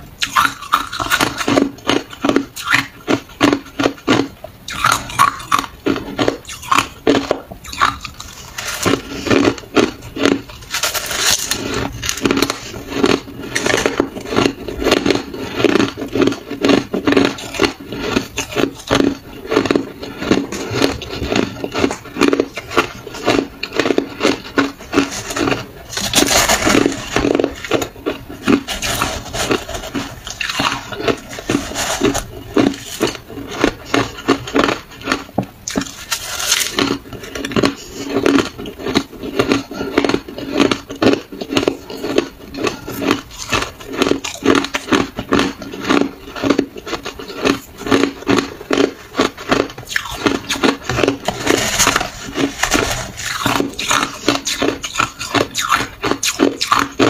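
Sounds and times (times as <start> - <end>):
person chewing crunchy frost: 0.0 - 57.0.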